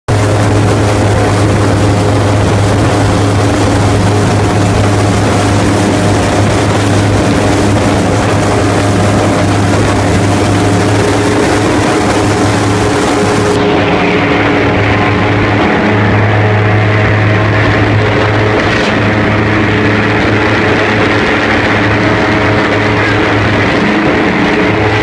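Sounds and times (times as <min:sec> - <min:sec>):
airboat engine and propeller: 0:00.1 - 0:25.0.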